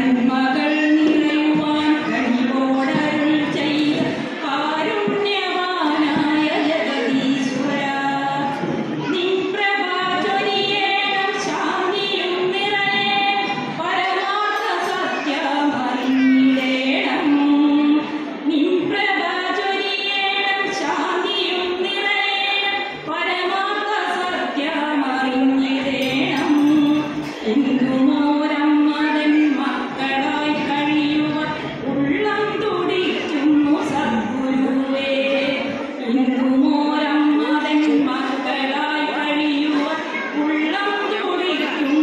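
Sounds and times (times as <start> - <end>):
woman singing unaccompanied: 0.0 - 42.0.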